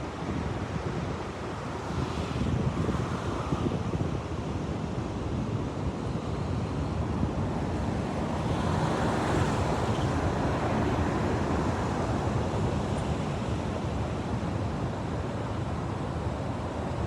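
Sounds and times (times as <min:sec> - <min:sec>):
wind buffeting microphone: 0:00.1 - 0:14.8.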